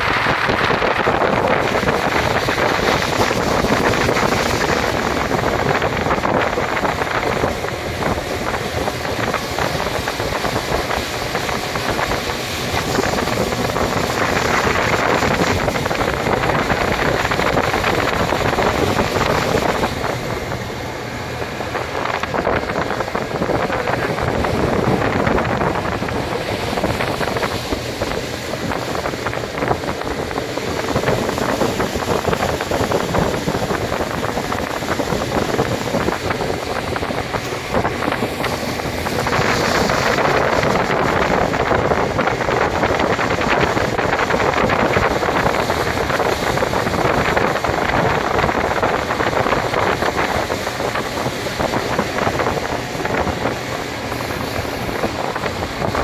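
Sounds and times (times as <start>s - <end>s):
outboard motor running: 0.0s - 56.0s
water rushing: 0.0s - 56.0s
wind buffeting microphone: 0.0s - 56.0s.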